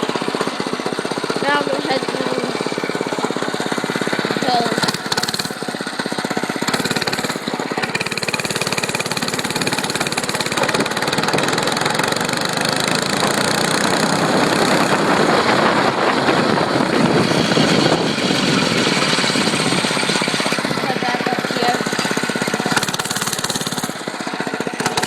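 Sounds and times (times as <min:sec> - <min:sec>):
dirt bike engine running hard: 0:00.0 - 0:25.0.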